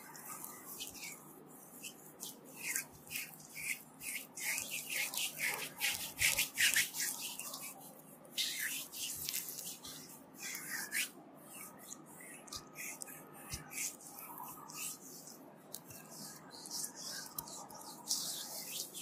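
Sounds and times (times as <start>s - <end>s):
hands swishing on oiled skin: 0.0s - 19.0s.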